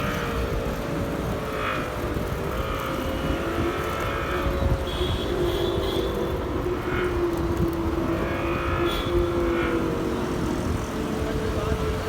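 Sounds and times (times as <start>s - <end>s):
electric scooter artificial motor hum: 0.0s - 12.0s.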